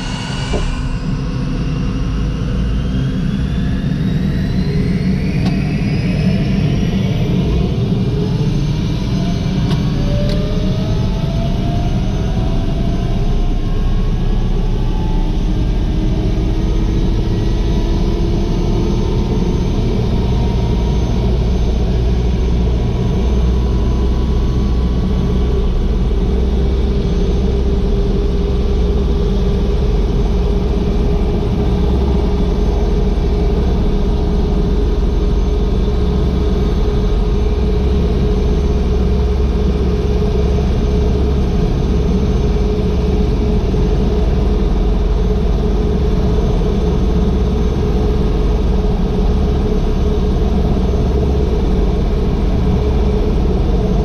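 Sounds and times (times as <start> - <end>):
helicopter engine and rotor running: 0.0 - 54.0.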